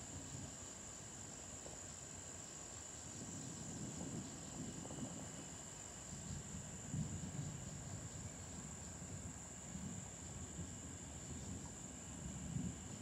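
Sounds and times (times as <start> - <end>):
insect chorus trilling: 1.9 - 13.0.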